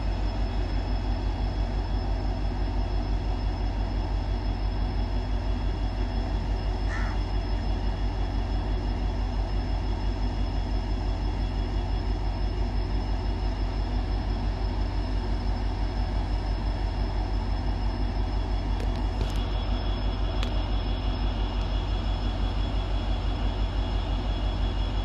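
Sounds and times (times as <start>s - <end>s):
diesel locomotive engine throbbing: 0.0s - 25.0s.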